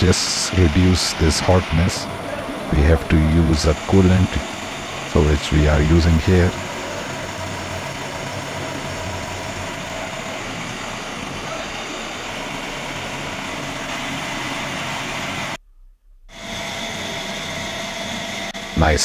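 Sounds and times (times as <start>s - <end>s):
milling machine cutting metal: 0.0s - 15.6s, 16.3s - 19.0s
faint machine whine: 0.0s - 19.0s.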